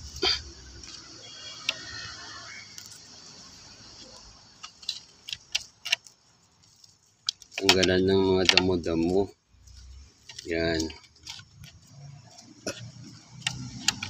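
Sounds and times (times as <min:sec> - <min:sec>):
weeds scraping and rustling: 0:00.0 - 0:14.0.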